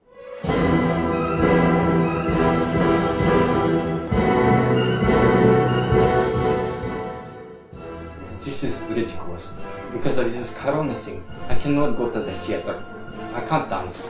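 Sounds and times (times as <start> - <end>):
orchestral music: 0.0 - 14.0.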